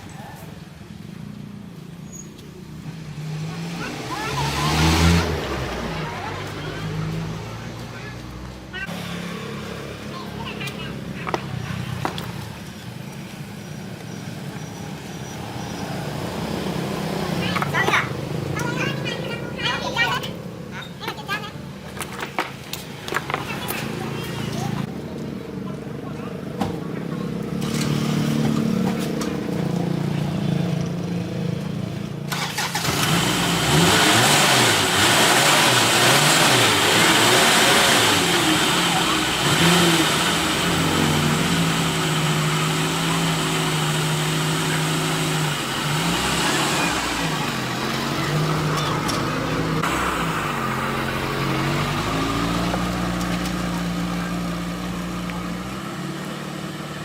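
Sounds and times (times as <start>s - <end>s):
pickup truck engine revving: 2.8s - 12.3s, 14.0s - 22.2s, 23.0s - 57.0s.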